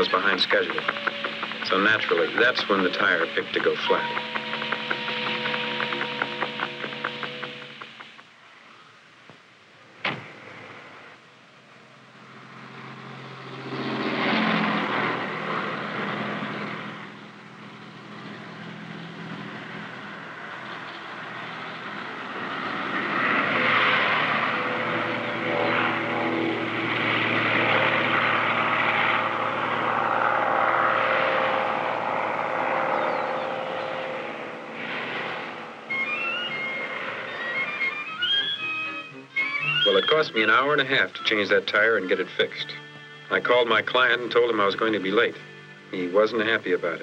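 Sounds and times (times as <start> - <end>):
vehicle passing: 0.0 - 8.4, 11.9 - 47.0
propeller airplane flying over: 0.0 - 8.9, 10.4 - 47.0.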